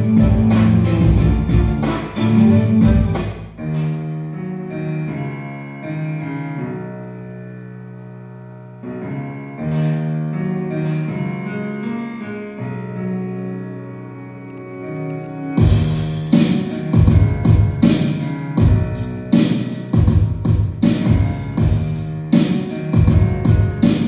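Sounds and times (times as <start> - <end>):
sustained keyboard chords: 0.0 - 24.0.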